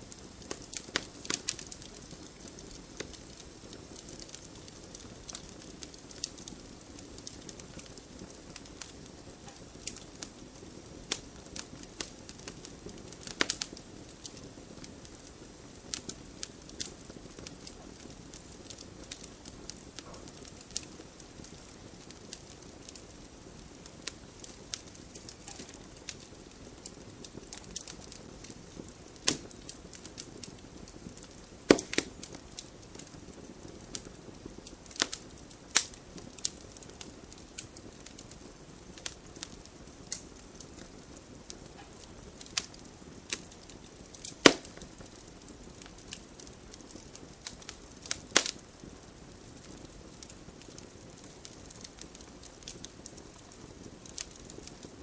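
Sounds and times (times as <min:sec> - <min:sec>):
fire hissing and crackling: 0:00.0 - 0:55.0
fire popping: 0:00.0 - 0:55.0.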